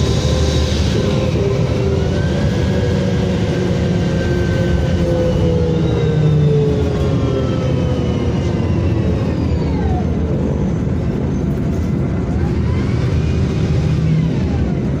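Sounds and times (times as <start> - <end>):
bus engine rumble with whine: 0.0 - 15.0.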